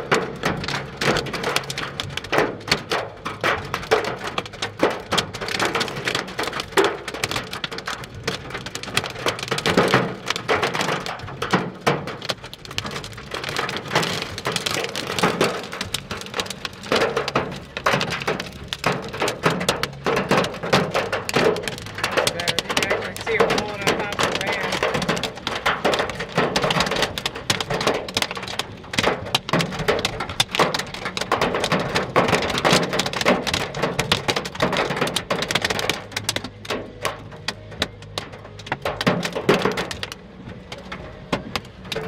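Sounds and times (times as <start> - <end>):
hailstones clattering on hard surfaces: 0.0 - 42.0
rain hissing: 0.0 - 42.0.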